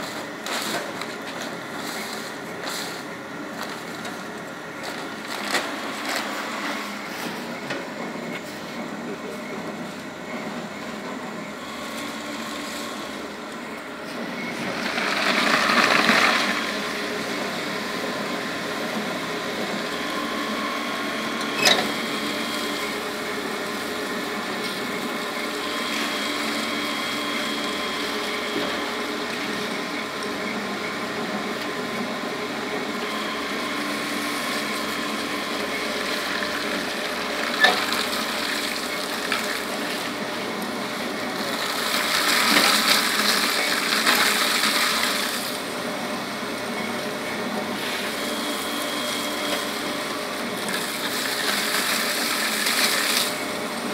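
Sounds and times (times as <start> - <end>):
shredder cutting plastic bags: 0.0 - 7.0, 14.6 - 30.4, 31.0 - 46.0, 47.6 - 53.9.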